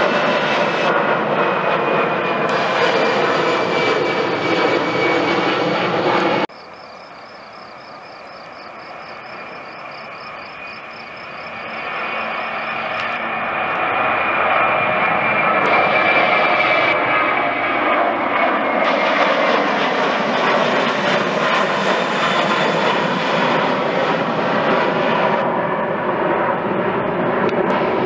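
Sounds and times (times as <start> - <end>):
jet airliner engines roaring: 0.0 - 28.0.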